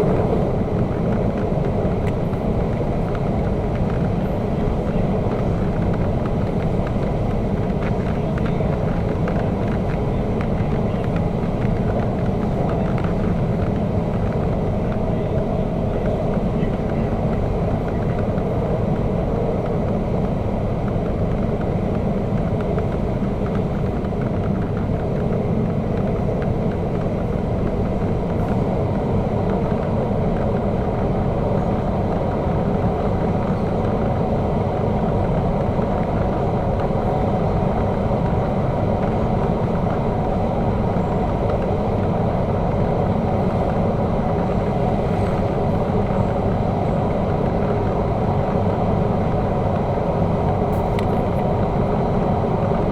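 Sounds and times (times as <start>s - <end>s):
train running on rails: 0.0s - 52.9s.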